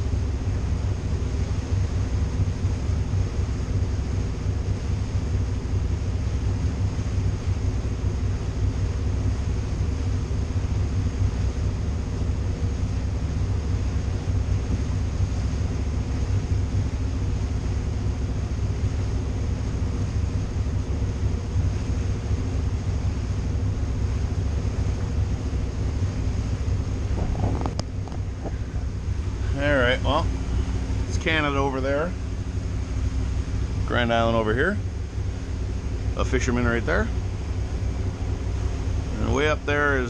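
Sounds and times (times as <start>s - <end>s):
boat engines droning: 0.0s - 40.0s.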